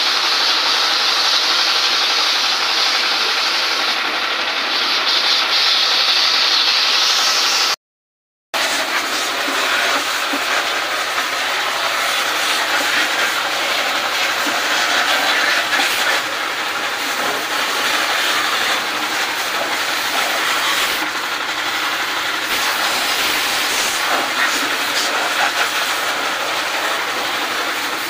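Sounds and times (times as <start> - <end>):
pressure washer jet hissing: 0.0 - 7.8, 8.6 - 28.0.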